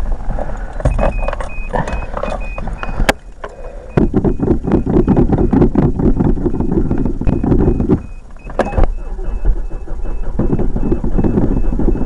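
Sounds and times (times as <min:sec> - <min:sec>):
starter cranking engine: 0:00.4 - 0:12.0
car warning chime beeping: 0:00.8 - 0:12.0.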